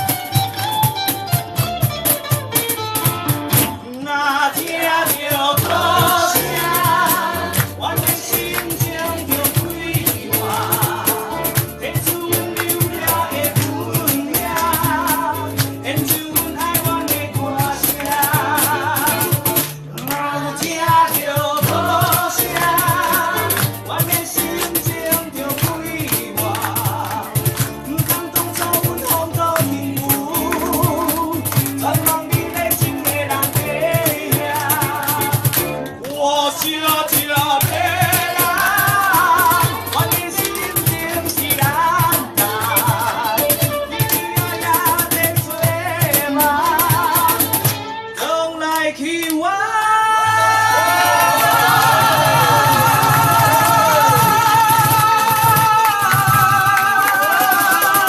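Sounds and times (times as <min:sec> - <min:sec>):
ukulele ensemble strumming: 0:00.0 - 0:48.3, 0:50.3 - 0:58.0
voices singing with vibrato: 0:04.0 - 0:35.5, 0:36.1 - 0:47.6, 0:48.2 - 0:58.0.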